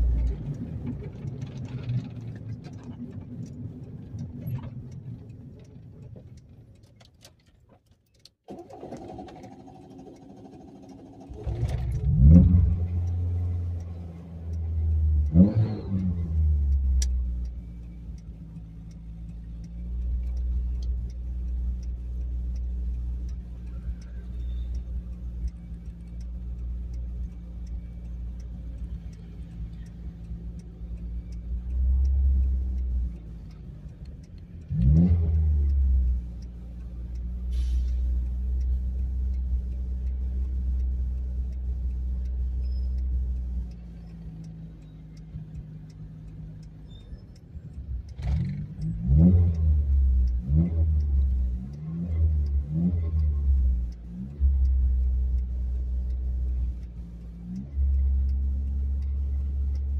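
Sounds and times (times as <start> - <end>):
car engine revving while driving: 0.0 - 6.5, 8.7 - 59.9.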